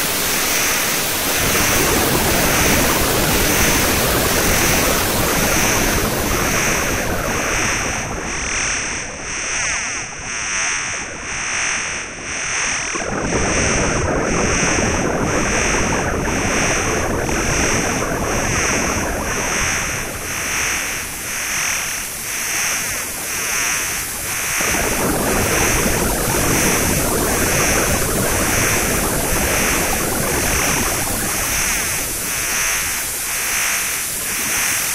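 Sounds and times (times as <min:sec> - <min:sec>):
hiss-like noise wash: 0:00.0 - 0:34.9
high electronic pulsing: 0:00.2 - 0:34.9.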